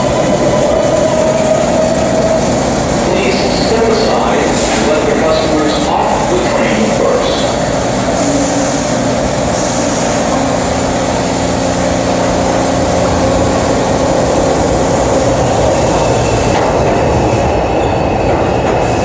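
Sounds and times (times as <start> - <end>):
subway train rumbling past: 0.0 - 19.0.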